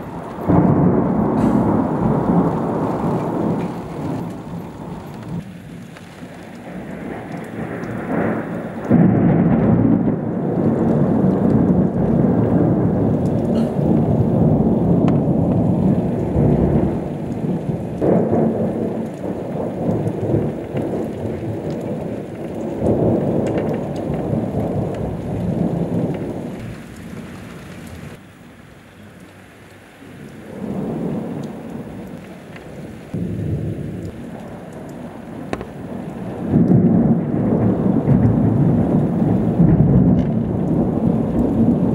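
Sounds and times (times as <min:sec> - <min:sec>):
thunder rumbling: 0:00.0 - 0:28.2, 0:30.5 - 0:41.9
steady rain: 0:00.0 - 0:41.9.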